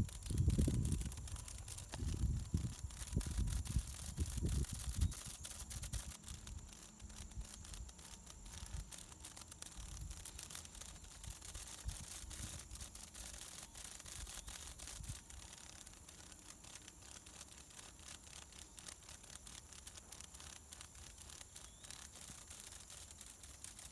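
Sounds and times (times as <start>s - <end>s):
cicada wings fluttering: 0.0s - 23.9s.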